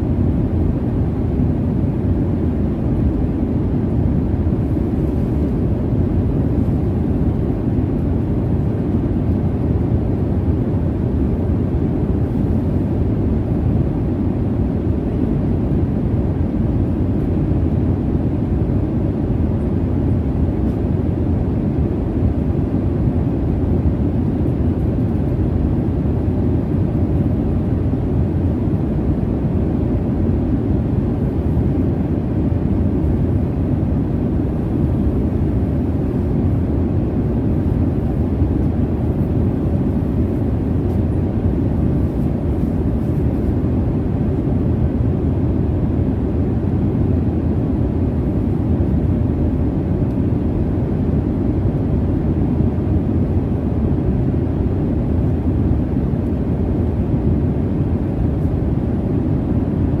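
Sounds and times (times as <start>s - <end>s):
airliner cabin rumble: 0.0s - 60.0s.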